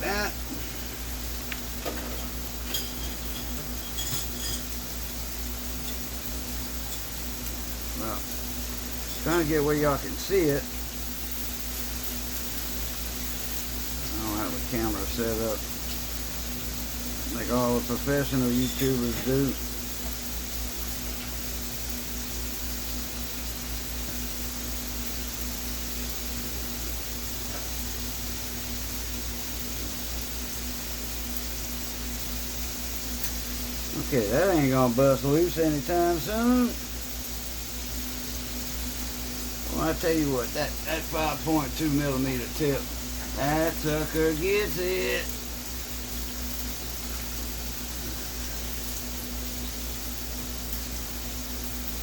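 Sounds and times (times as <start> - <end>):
background hiss: 0.0 - 52.0
constant low hum: 0.0 - 52.0.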